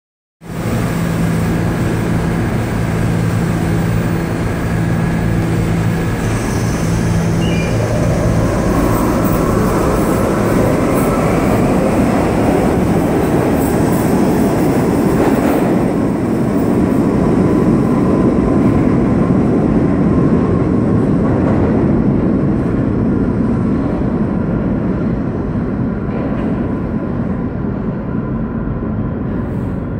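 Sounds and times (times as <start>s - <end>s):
wheels rumbling on rail: 0.4s - 29.9s.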